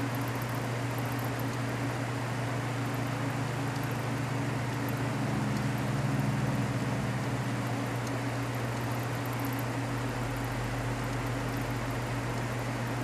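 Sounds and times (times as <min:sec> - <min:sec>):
refrigerator compressor humming: 0:00.0 - 0:13.0.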